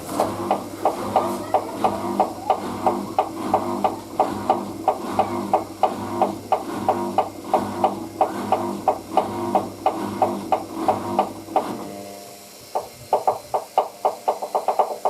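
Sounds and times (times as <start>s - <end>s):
washing machine drum knocking: 0.0s - 11.8s, 12.7s - 15.0s
washing machine motor humming: 0.0s - 15.0s.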